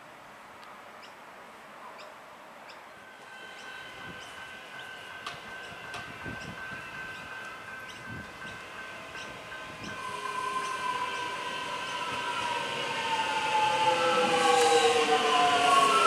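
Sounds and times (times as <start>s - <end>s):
electric train traction whine: 3.0s - 16.0s.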